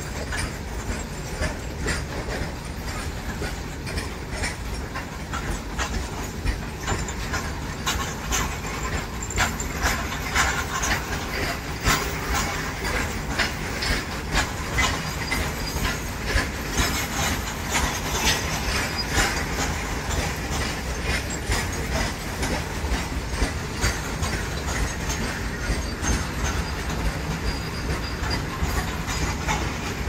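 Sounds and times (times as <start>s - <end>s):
freight train wheels rumbling and rattling: 0.0s - 30.0s
sharp wheel clacks: 0.0s - 30.0s.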